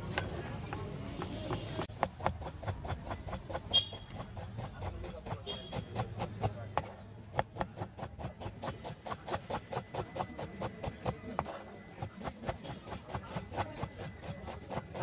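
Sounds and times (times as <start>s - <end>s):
knife chopping on plastic board: 0.7s - 15.0s.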